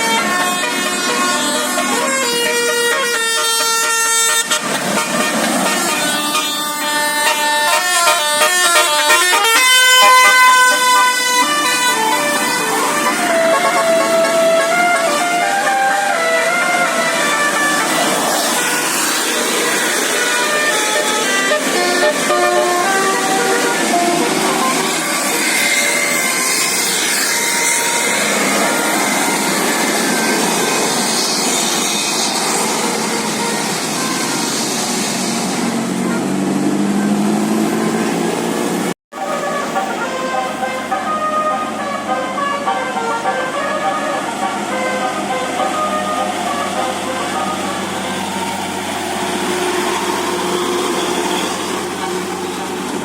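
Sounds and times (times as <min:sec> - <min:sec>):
musical air horn playing a tune: 0:00.0 - 0:38.2, 0:39.1 - 0:53.0
road traffic rushing: 0:00.0 - 0:53.0
vehicles passing close by: 0:00.0 - 0:53.0.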